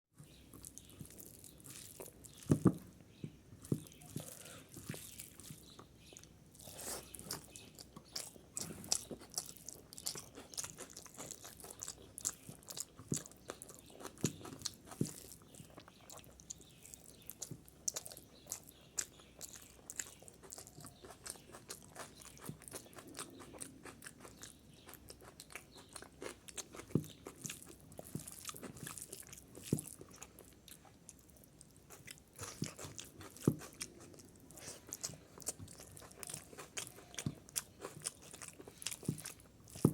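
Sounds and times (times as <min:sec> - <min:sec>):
person chewing crunchy food: 0:00.2 - 0:39.9.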